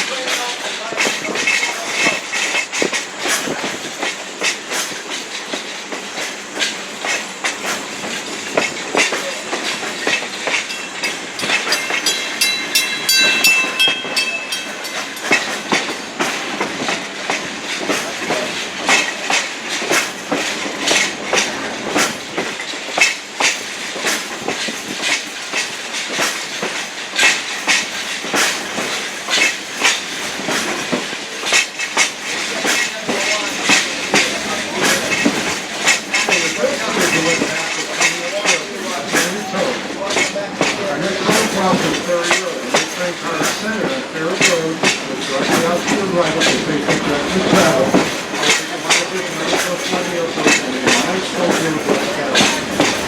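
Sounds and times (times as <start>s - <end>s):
train running rumble: 0.0s - 53.0s
train wheels clicking over rail joints: 0.0s - 53.0s.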